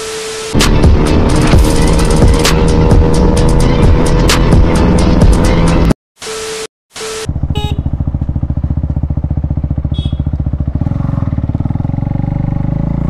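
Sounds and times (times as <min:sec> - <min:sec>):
motorcycle engine running: 0:00.6 - 0:05.9, 0:07.3 - 0:13.0.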